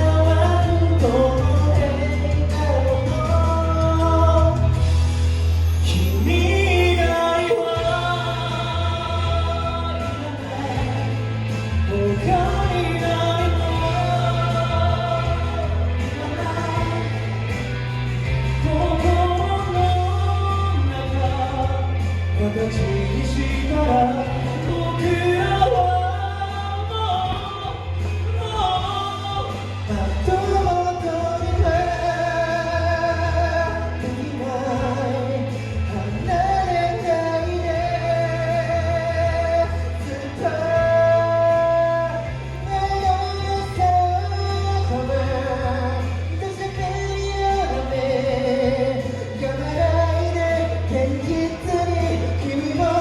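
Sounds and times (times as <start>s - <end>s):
backing music with bass line: 0.0s - 53.0s
person singing: 0.0s - 53.0s.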